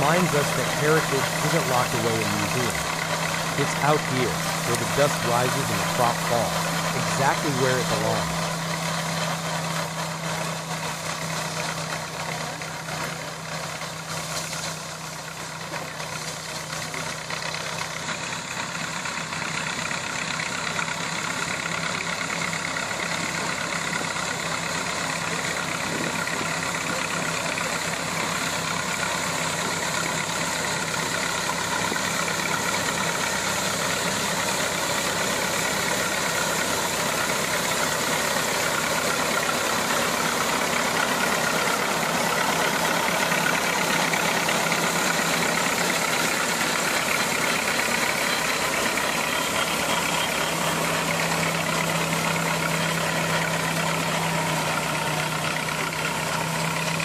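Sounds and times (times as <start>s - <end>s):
harvester mechanical drone: 0.0s - 57.0s.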